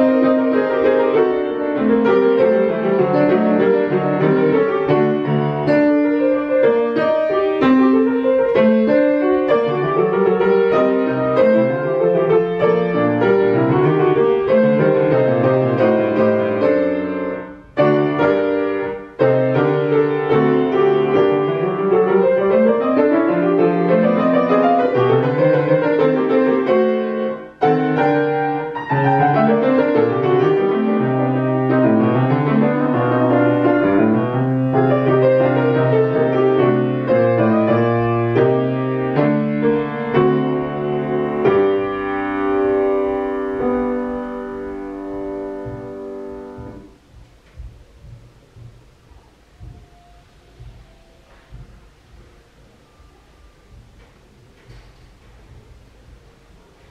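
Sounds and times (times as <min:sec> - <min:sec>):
classical grand piano: 0:00.0 - 0:56.9.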